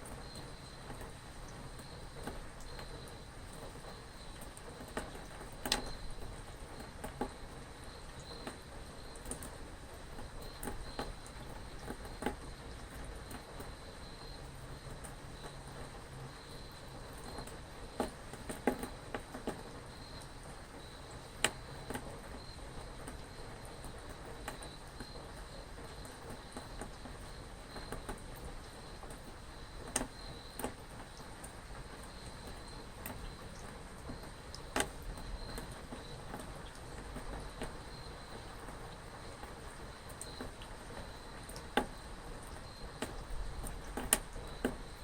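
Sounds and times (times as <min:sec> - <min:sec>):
sharp water drips: 0:00.0 - 0:45.0
steady rain: 0:00.0 - 0:45.0.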